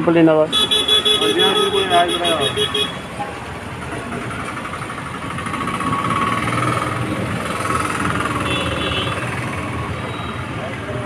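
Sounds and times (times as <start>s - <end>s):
vehicle engines passing: 0.0s - 11.0s.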